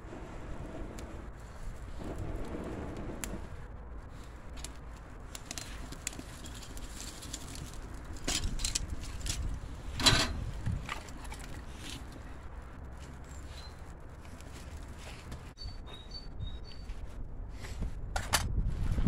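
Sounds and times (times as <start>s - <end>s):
fire crackling in a stove: 0.0s - 15.6s.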